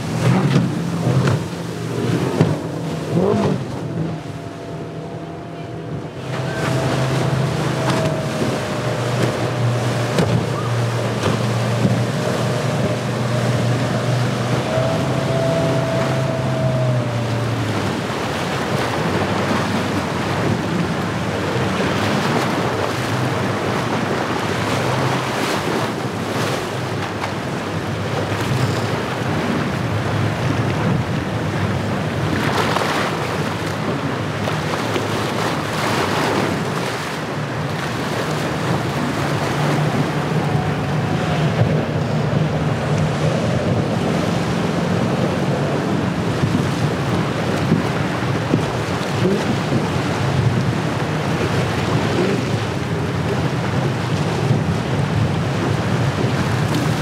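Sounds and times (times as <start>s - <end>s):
outboard motor running: 0.0s - 57.0s
waves breaking: 0.0s - 57.0s
wind on microphone: 0.0s - 57.0s.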